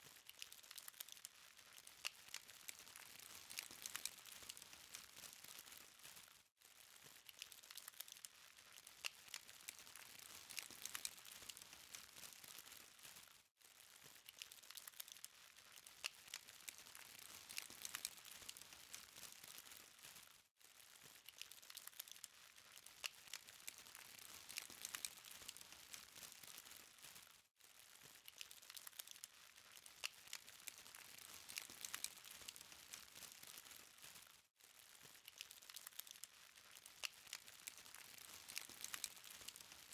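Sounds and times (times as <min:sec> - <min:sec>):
charcoal fire crackling: 0:00.0 - 0:39.9.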